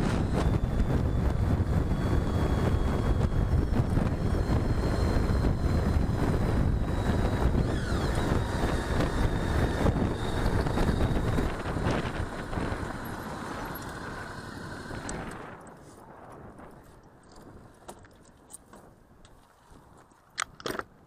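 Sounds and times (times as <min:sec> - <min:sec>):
wind buffeting microphone: 0:00.0 - 0:19.0
motorcycle engine and road noise: 0:00.0 - 0:21.0.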